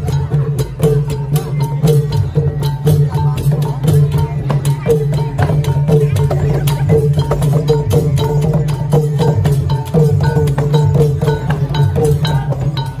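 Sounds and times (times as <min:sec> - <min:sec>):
procession drums and percussion: 0:00.0 - 0:13.0.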